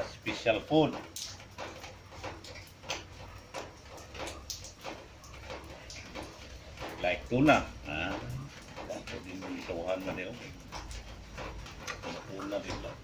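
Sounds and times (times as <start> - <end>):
light clicks and taps: 0.0 - 13.0.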